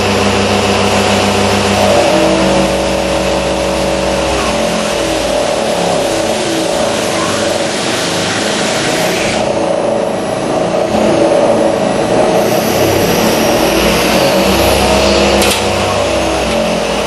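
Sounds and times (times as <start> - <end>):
lathe machine humming: 0.0 - 17.0.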